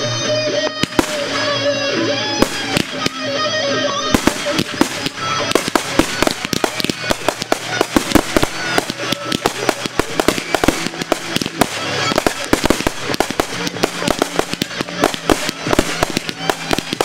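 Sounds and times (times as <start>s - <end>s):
fireworks bangs and crackles: 0.0s - 17.0s
guitar music: 0.0s - 17.0s.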